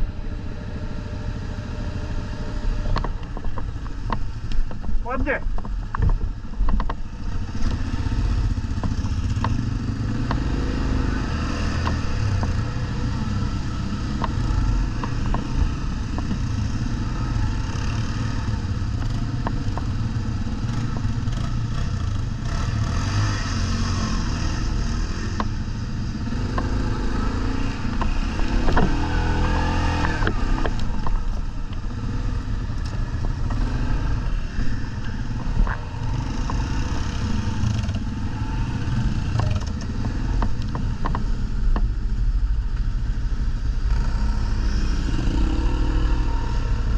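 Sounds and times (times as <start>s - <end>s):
atv engine rumbling: 0.0s - 46.9s.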